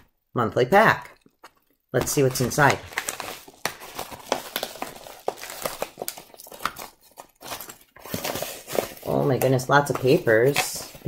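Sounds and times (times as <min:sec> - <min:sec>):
paper bag crinkling: 0:02.0 - 0:11.0.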